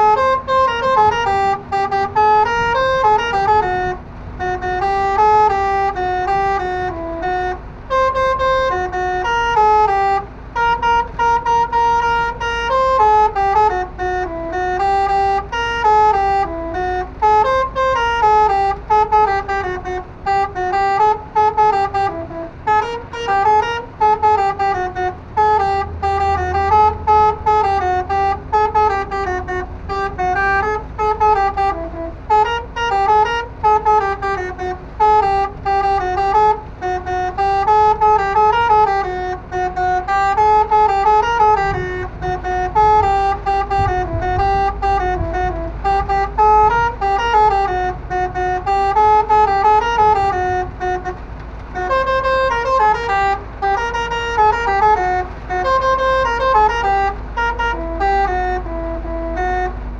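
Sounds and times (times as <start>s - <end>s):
truck air horn playing melody: 0.0s - 59.9s.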